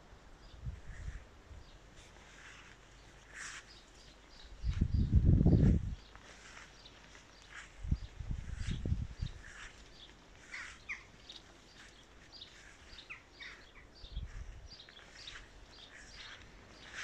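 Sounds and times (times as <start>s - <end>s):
birds chirping: 2.5s - 17.0s.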